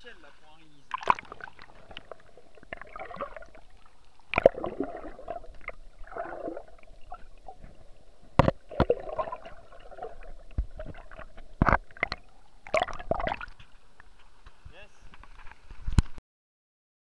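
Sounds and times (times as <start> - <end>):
water sloshing and gurgling: 0.8 - 14.5.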